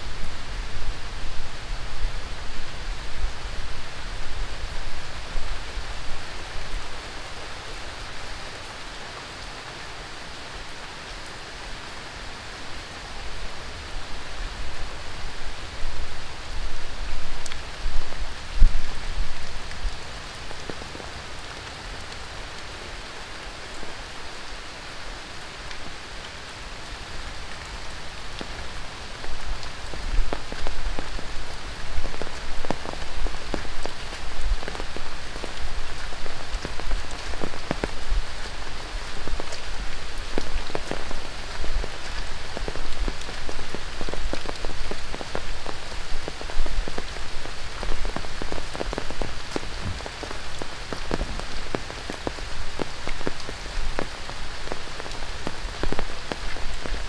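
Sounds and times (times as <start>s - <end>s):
rain falling on foliage: 0.0s - 57.0s
raindrops pattering: 0.0s - 57.0s.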